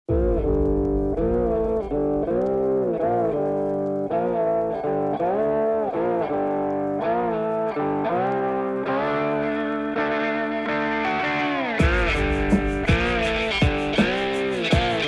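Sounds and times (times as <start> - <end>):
electric guitar melody: 0.1 - 15.0.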